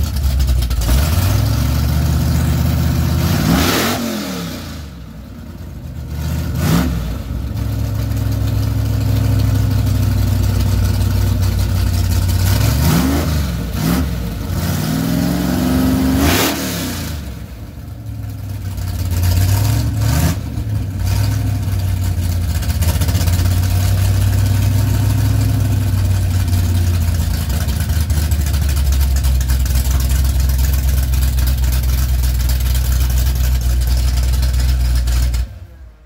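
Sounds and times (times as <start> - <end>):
engine idle rumble: 0.0 - 3.5, 4.6 - 16.2, 17.0 - 36.0.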